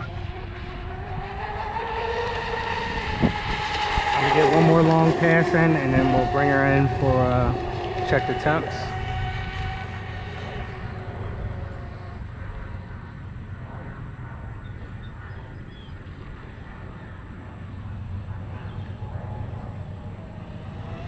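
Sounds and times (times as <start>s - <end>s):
low rumble: 0.0s - 21.0s
model boat motor whine: 0.0s - 21.0s.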